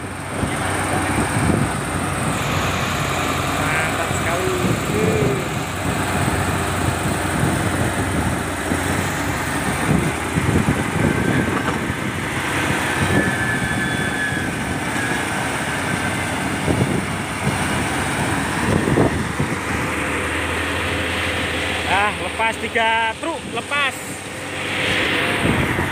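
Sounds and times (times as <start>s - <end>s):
truck engines running: 0.0s - 25.9s.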